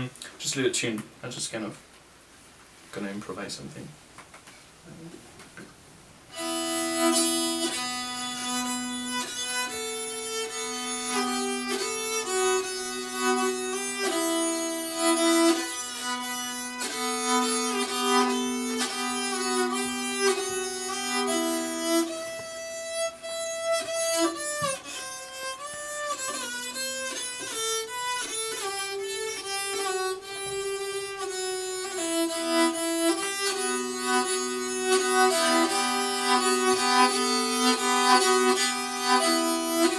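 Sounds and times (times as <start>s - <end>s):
bowed string instrument melody: 6.3s - 39.9s.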